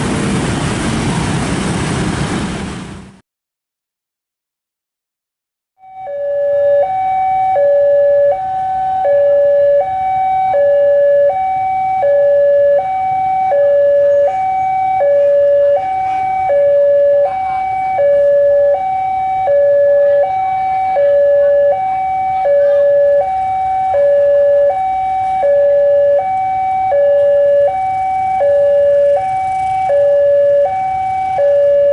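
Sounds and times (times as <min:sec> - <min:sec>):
two-tone warning siren: 0:05.8 - 0:31.9.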